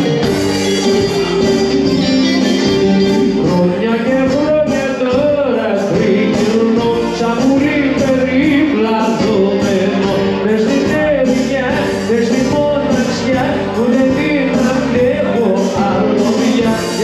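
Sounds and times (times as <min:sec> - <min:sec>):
live bouzouki band music: 0:00.0 - 0:17.0
person singing: 0:00.0 - 0:17.0.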